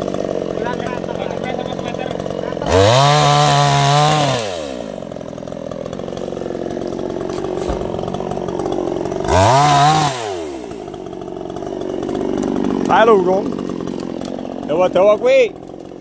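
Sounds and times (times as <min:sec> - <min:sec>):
two-stroke chainsaw revving and idling: 0:00.0 - 0:16.0.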